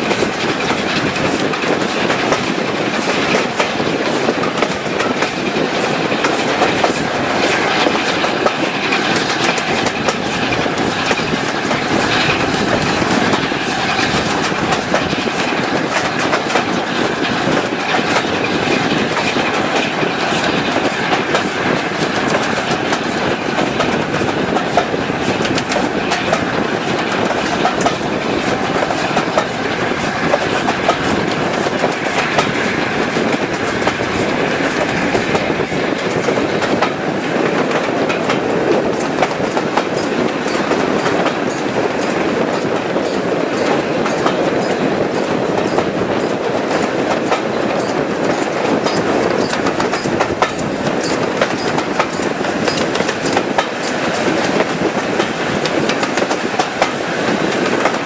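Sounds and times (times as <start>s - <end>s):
train running on rails: 0.0s - 58.0s
wheels clicking over rail joints: 0.0s - 58.0s.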